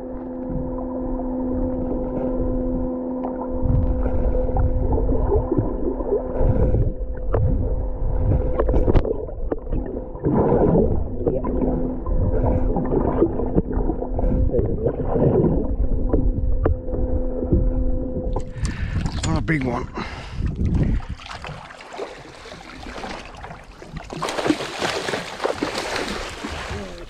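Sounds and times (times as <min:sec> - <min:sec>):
steady low hum: 0:00.0 - 0:27.0
underwater water gurgling: 0:00.0 - 0:27.0.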